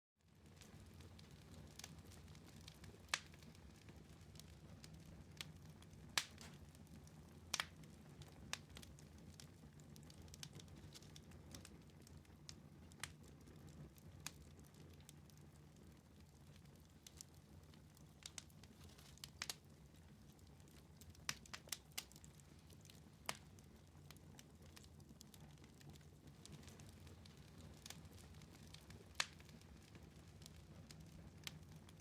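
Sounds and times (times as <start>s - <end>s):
wood fire crackling in fireplace: 0.2s - 32.0s.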